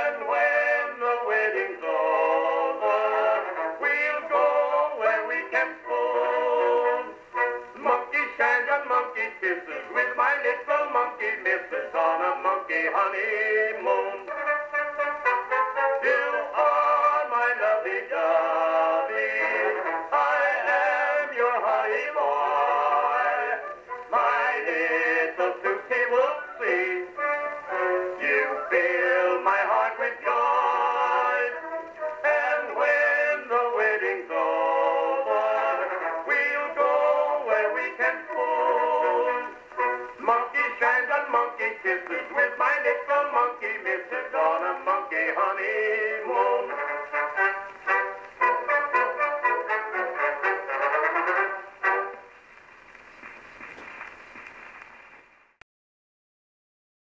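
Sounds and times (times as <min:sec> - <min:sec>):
phonograph vocal duet with band: 0:00.0 - 0:14.4, 0:16.0 - 0:48.1.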